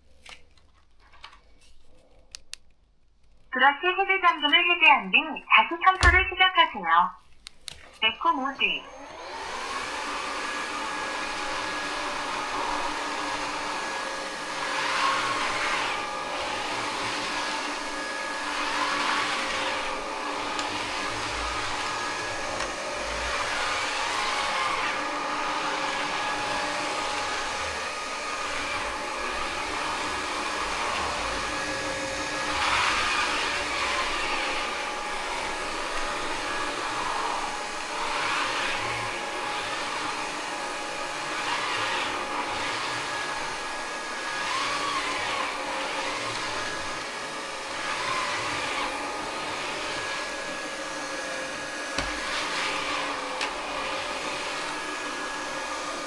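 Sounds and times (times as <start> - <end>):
vacuum hiss: 8.5 - 56.0
floor vacuum motor whine: 8.8 - 56.0.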